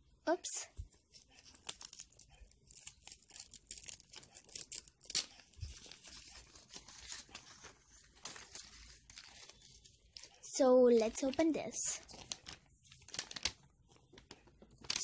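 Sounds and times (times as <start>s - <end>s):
paper tearing and rustling: 1.3s - 10.4s, 11.2s - 15.0s.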